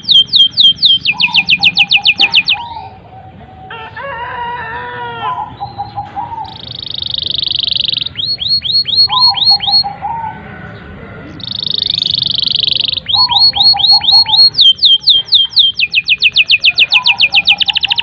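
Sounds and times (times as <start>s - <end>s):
canary singing: 0.0s - 4.0s, 5.0s - 18.0s.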